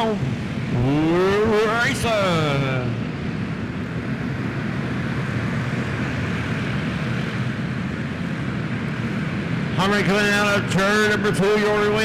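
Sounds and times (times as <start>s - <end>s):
racing kart engines droning: 0.0s - 12.0s.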